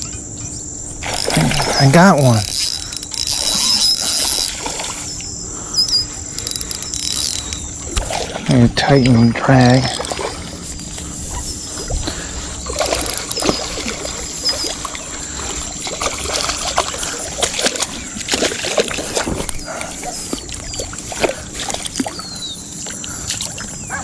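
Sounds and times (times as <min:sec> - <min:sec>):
fish splashing in water: 0:01.0 - 0:08.6, 0:09.7 - 0:24.0.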